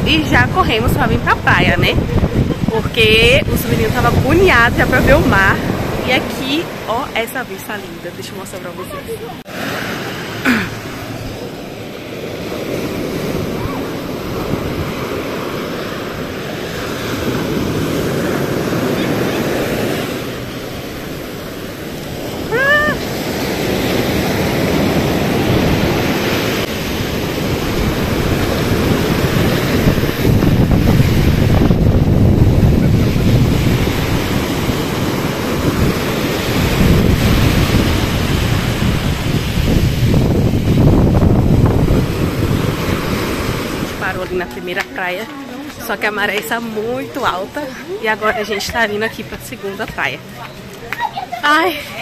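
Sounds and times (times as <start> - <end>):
wind buffeting microphone: 0.0 - 9.5, 12.4 - 50.7
ocean surf breaking on beach: 0.0 - 52.0.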